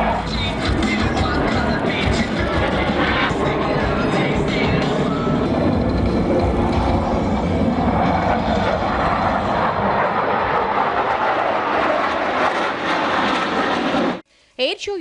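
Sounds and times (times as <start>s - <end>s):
jet engine rumble: 0.0s - 14.3s.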